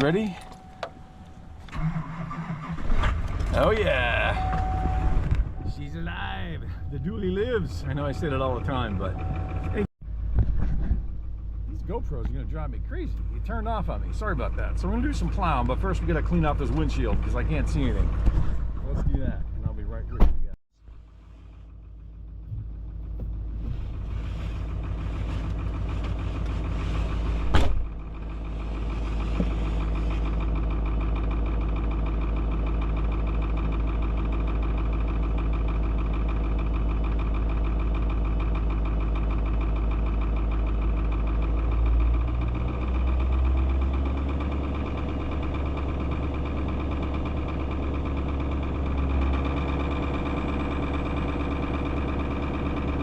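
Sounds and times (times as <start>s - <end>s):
diesel engine idling: 0.0s - 10.3s, 11.0s - 20.2s, 20.8s - 53.0s.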